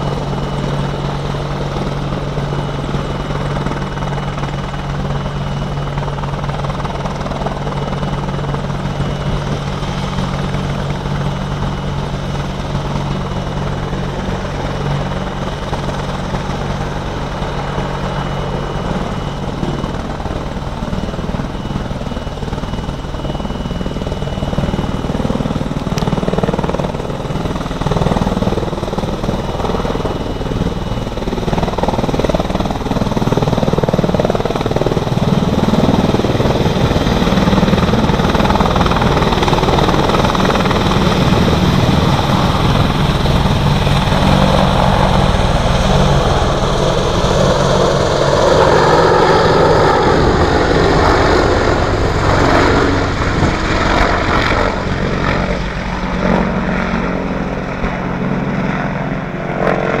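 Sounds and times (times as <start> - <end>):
helicopter rotor beat: 0.0 - 60.0
high turbine whine: 0.0 - 60.0.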